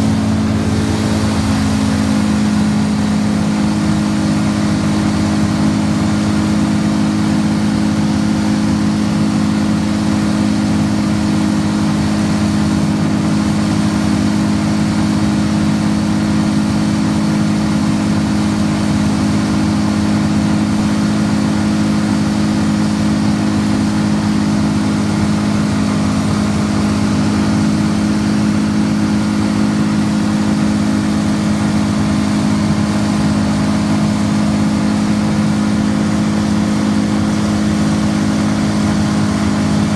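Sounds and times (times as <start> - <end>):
wood chipper engine humming: 0.0 - 39.9.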